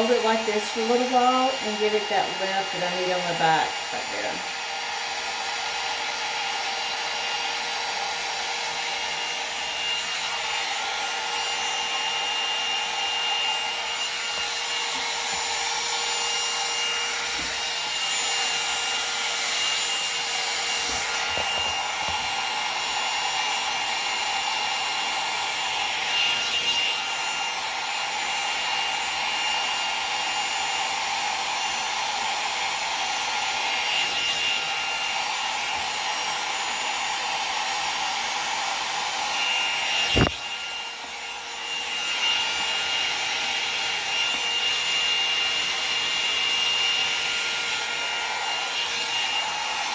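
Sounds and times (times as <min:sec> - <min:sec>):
hot air brush blowing: 0:00.0 - 0:49.9.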